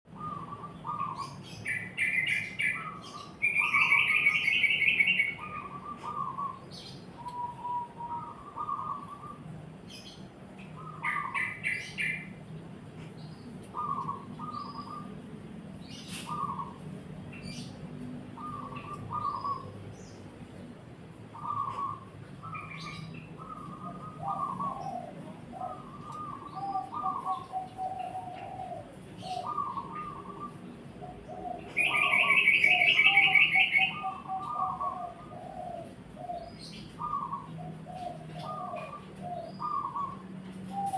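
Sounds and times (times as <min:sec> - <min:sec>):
dove cooing: 0:00.1 - 0:01.4, 0:02.0 - 0:10.1, 0:13.6 - 0:15.2, 0:15.9 - 0:17.6, 0:18.4 - 0:19.8, 0:21.3 - 0:40.9
bird chattering song: 0:00.1 - 0:40.9.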